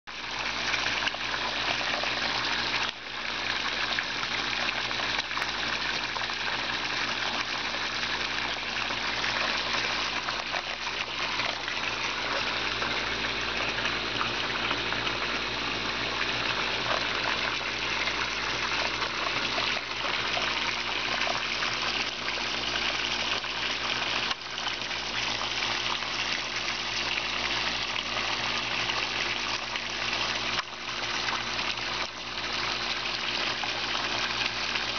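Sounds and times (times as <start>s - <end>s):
filter pump hum: 0.1s - 34.9s
water splashing into pond: 0.1s - 34.9s.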